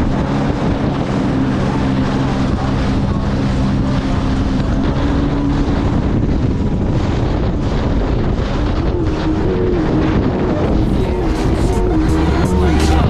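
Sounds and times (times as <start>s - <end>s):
watercraft engine running: 0.0s - 13.0s
wind noise on microphone: 0.0s - 13.0s.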